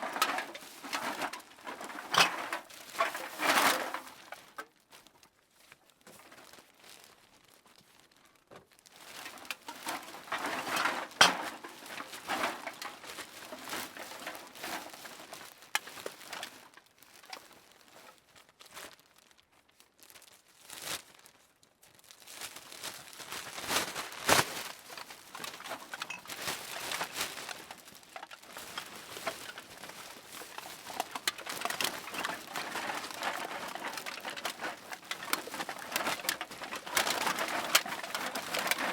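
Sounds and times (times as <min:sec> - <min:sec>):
plastic bag crinkling: 0:00.0 - 0:38.9.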